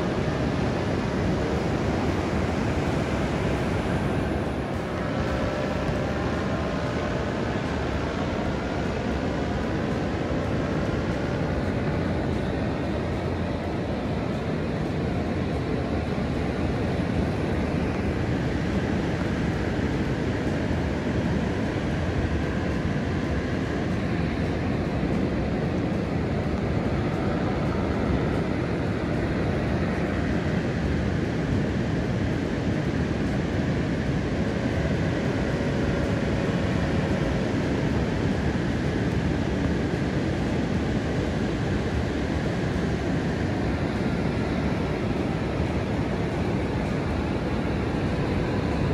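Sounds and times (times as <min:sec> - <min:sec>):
paramotor engine droning overhead: 0:00.0 - 0:48.9
wind: 0:00.0 - 0:48.9.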